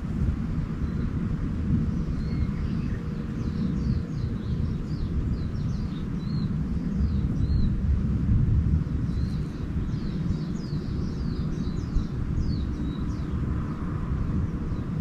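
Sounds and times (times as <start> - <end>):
small birds twittering: 0.0 - 8.1, 8.7 - 15.0
steady low rumble: 0.0 - 15.0.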